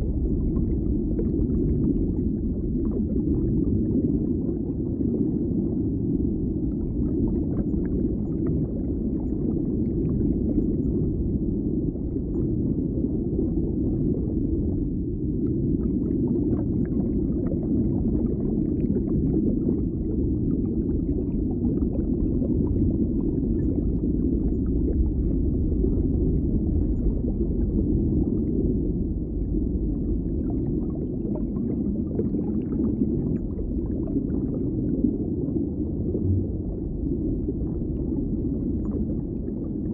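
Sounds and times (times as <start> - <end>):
low indoor ambience rumble: 0.0 - 39.9.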